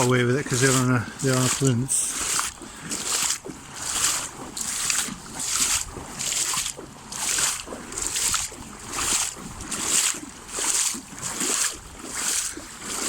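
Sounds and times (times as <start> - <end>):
wading through water: 0.0 - 13.0.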